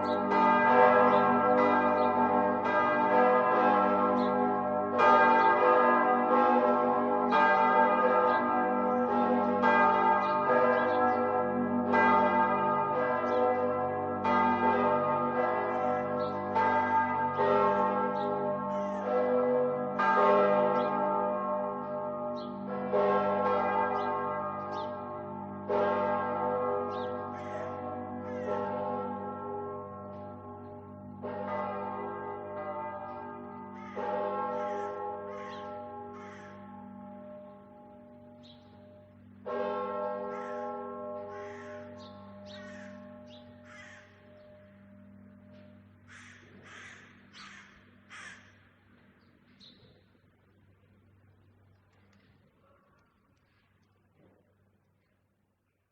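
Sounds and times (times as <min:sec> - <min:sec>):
church bells ringing: 0:00.0 - 0:49.6.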